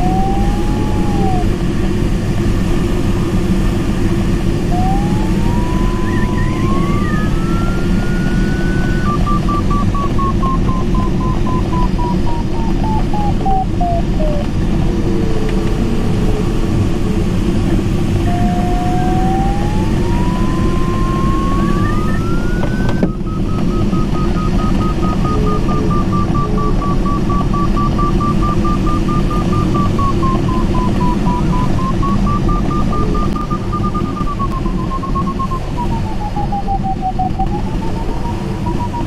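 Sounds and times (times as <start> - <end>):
variometer tone and beeping: 0.0 - 2.7, 3.9 - 39.0
airflow rushing around cockpit: 0.0 - 39.0.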